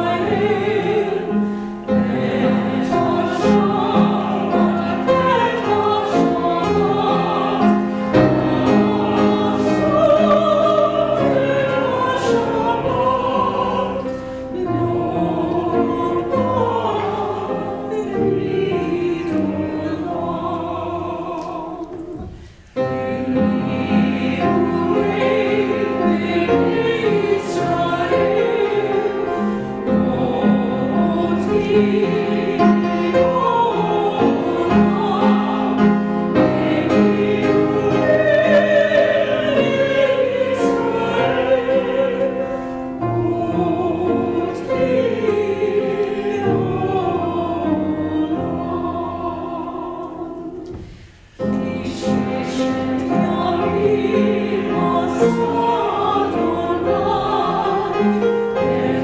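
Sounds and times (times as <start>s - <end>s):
mixed choir singing: 0.0s - 59.0s
piano accompaniment: 0.0s - 59.0s.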